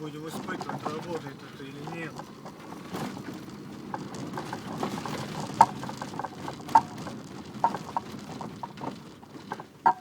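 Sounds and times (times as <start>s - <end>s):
road and engine noise in car: 0.0s - 10.0s.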